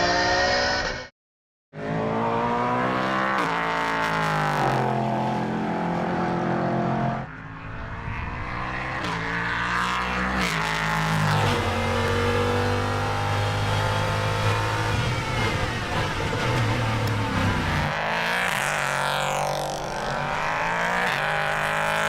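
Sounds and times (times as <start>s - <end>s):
race car engine at full throttle: 0.0s - 1.1s, 1.7s - 22.0s.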